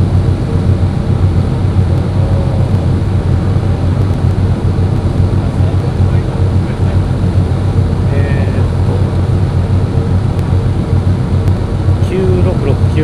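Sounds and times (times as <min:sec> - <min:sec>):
ferry diesel engine drone: 0:00.0 - 0:13.0.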